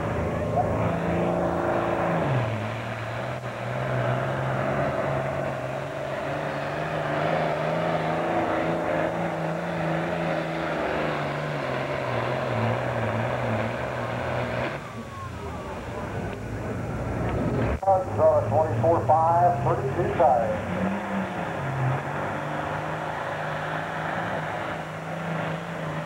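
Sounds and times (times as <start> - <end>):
tractor diesel engine at full throttle: 0.0 - 26.0.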